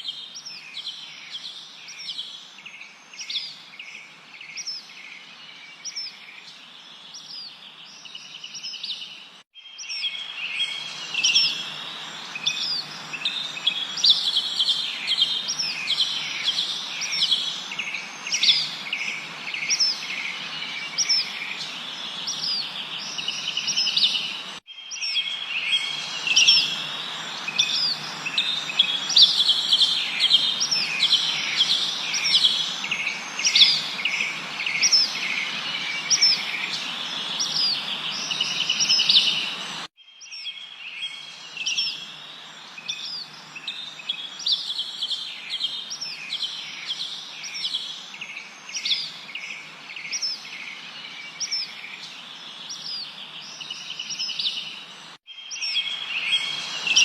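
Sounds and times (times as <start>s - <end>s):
small birds chirping and trilling: 0.0s - 57.0s
steady background hiss: 0.1s - 39.9s, 40.8s - 57.0s.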